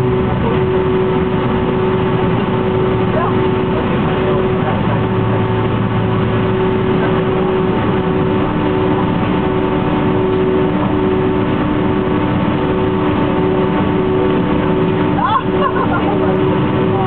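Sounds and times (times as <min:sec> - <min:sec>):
jet engine cabin hum: 0:00.0 - 0:17.0.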